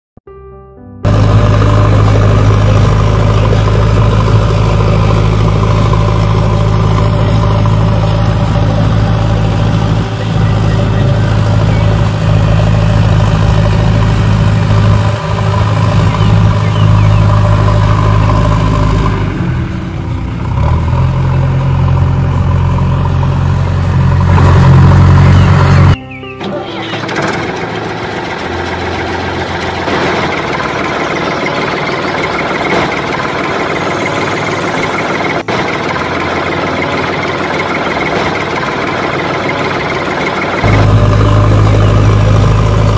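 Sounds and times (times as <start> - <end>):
large engine idling: 1.0 - 42.9.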